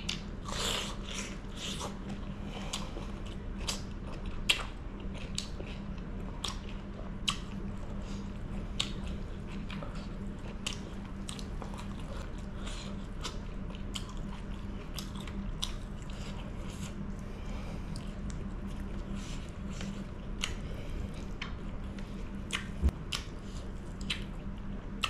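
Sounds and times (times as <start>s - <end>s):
chewing and wet mouth sounds: 0.0s - 25.0s
low hum: 0.0s - 25.0s.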